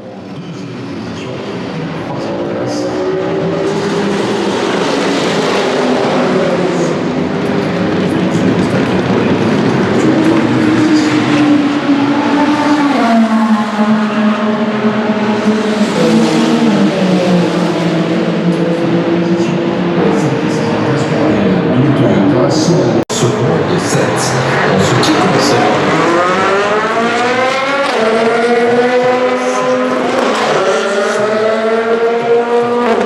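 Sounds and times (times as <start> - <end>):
race car engines with gear changes: 0.0 - 33.0.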